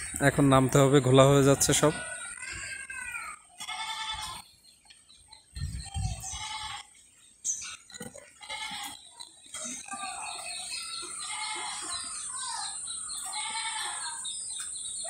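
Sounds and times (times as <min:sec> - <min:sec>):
repeated animal calls: 0:01.6 - 0:15.0.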